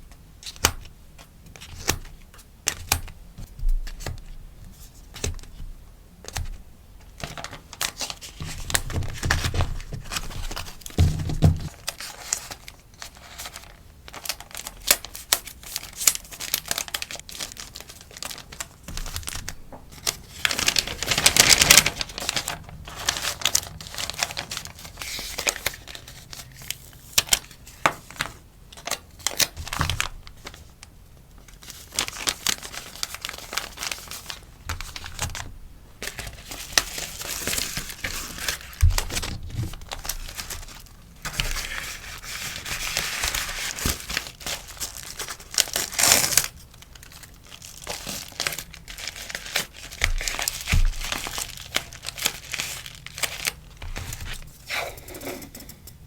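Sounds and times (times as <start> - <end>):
packaging rustling and crinkling: 0.4 - 55.4.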